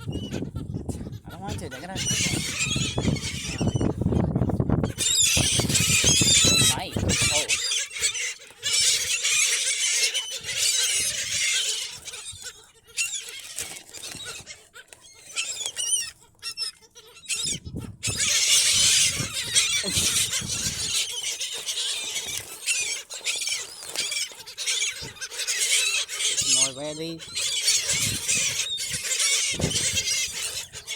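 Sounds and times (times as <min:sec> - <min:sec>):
gulls calling: 0:00.0 - 0:30.9.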